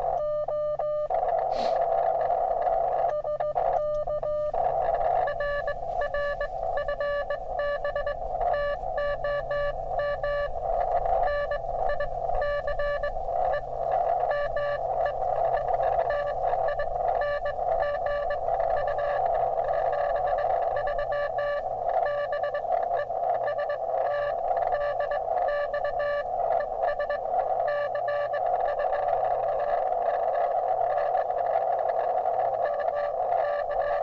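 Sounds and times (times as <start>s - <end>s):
morse code beeps: 0.0s - 34.0s
radio receiver hiss: 0.0s - 34.0s.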